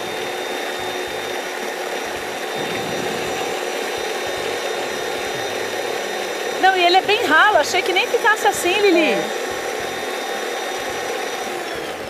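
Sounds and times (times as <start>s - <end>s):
electric mixer whirring: 0.0s - 12.0s.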